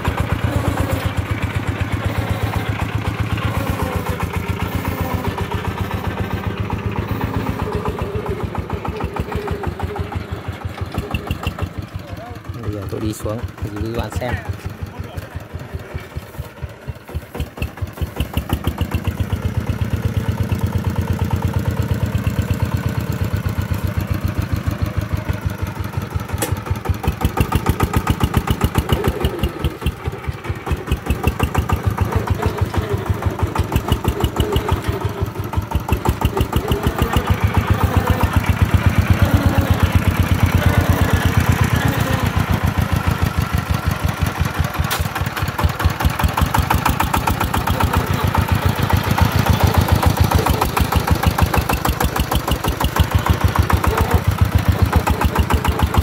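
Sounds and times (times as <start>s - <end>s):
single-cylinder diesel engine running: 0.0s - 56.0s.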